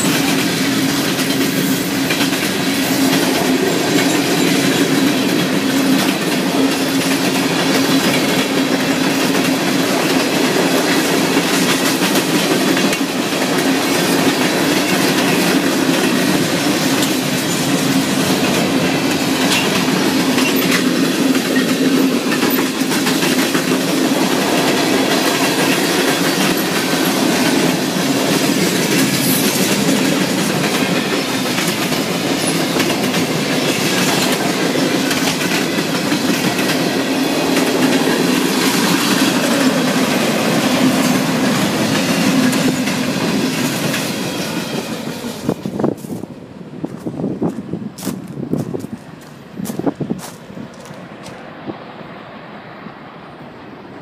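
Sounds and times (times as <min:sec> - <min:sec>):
wheels clicking over rail joints: 0:00.0 - 0:51.5
freight cars rumbling on rails: 0:00.0 - 0:54.0.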